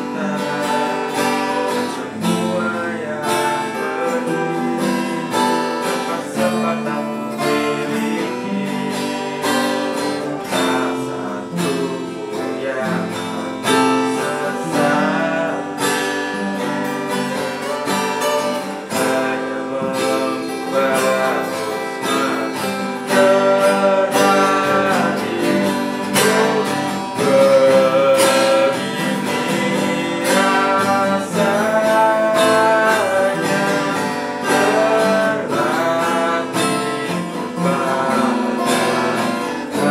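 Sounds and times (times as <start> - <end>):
man singing a slow pop ballad: 0.0 - 16.7, 18.7 - 39.9
acoustic guitars strummed and picked: 0.0 - 39.9.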